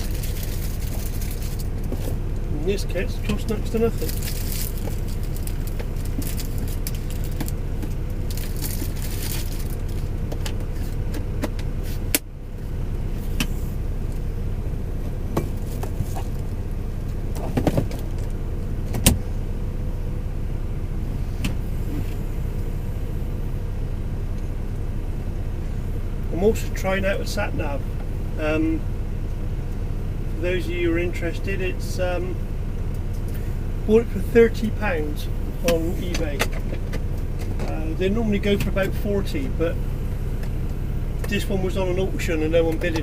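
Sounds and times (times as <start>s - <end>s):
low mechanical hum in truck cab: 0.0s - 43.0s.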